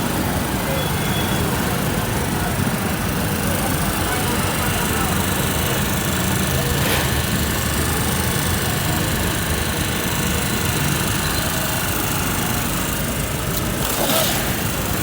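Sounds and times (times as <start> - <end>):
engine-like drone with hiss: 0.0 - 15.0.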